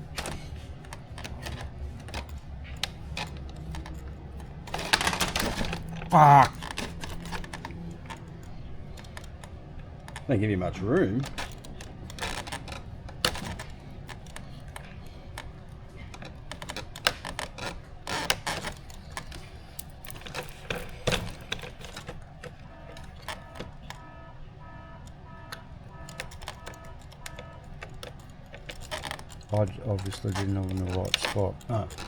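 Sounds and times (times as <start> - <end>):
plastic parts and screws clicking: 0.0 - 10.3, 11.2 - 32.0.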